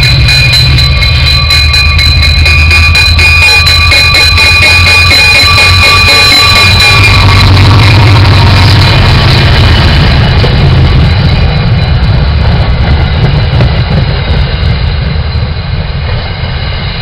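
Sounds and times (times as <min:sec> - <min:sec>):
diesel locomotive rumbling: 0:00.0 - 0:17.0
high squeal of train brakes: 0:00.0 - 0:17.0.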